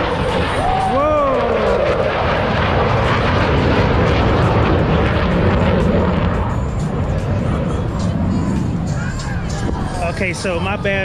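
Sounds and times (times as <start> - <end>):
fighter jet roar: 0.0 - 11.0.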